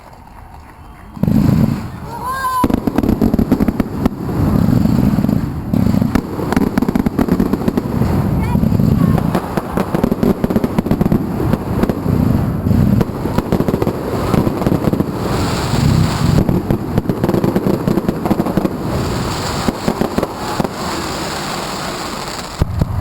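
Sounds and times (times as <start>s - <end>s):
fireworks bangs and crackles: 0.0s - 23.0s
crackling hiss: 1.1s - 23.0s.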